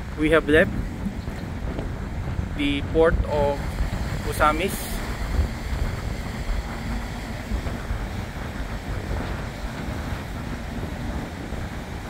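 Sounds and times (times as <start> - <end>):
ferry engine rumble: 0.0 - 12.0
water churning: 0.0 - 12.0
wind buffeting microphone: 0.0 - 12.0.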